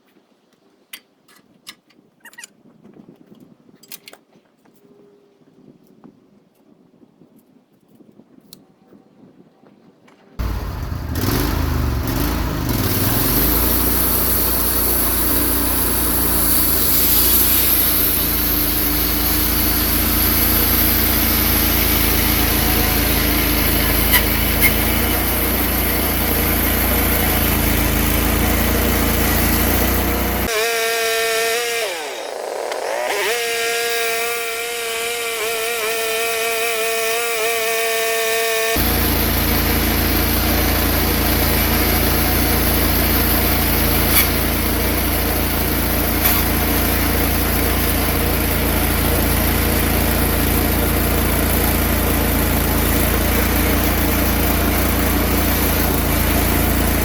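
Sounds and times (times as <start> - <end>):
band sawmill sawing wood: 10.4 - 57.0.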